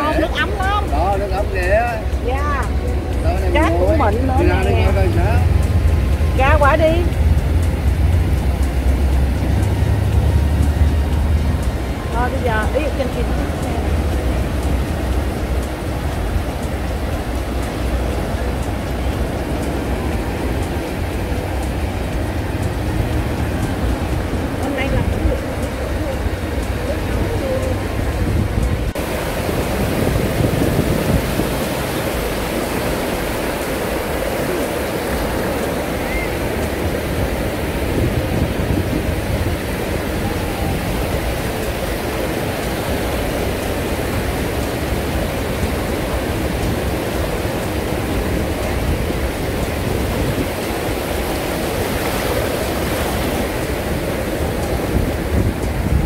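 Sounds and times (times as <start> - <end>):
waves breaking on a beach: 0.0 - 56.0
wind rumbling on microphone: 0.0 - 56.0.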